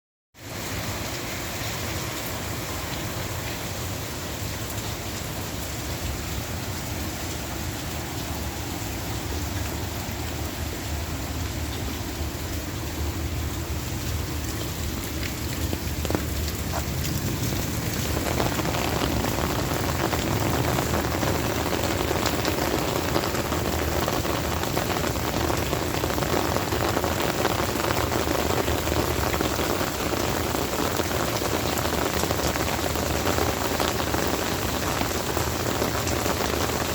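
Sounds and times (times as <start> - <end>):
heavy rain falling: 0.4 - 36.9.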